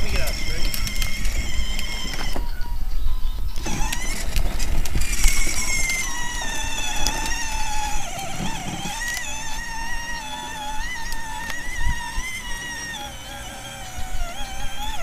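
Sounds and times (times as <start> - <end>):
toy car motor whining: 0.0 - 15.0
wheels rumbling: 0.0 - 15.0.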